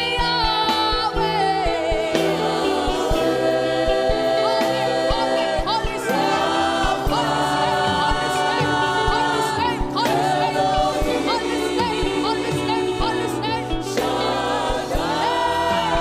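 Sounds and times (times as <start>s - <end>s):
gospel singing with vibrato: 0.0s - 16.0s.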